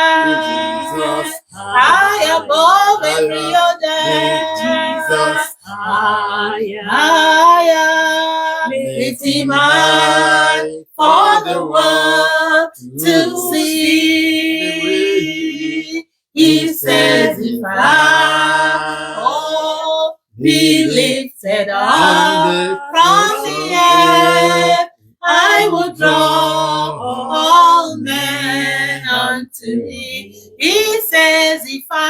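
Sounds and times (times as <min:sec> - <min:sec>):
person singing unaccompanied: 0:00.0 - 0:32.0.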